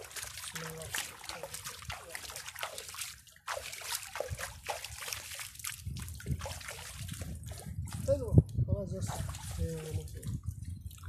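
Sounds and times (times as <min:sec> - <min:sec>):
hands splashing water: 0:00.0 - 0:08.2, 0:09.0 - 0:11.0
stream water trickling: 0:00.0 - 0:11.0.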